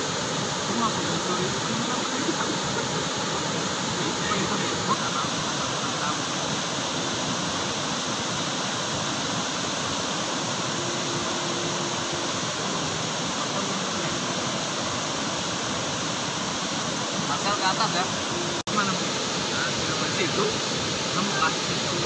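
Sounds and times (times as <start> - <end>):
waterfall rushing over rock: 0.0 - 22.0.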